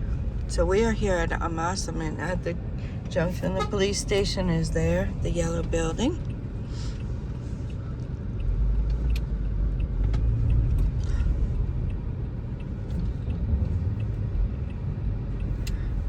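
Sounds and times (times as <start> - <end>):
car driving heard from inside: 0.0 - 16.0.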